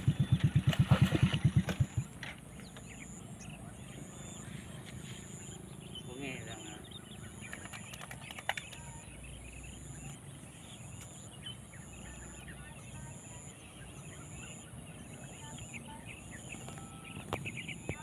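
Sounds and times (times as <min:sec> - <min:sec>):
small bird chirps: 0:00.0 - 0:18.0.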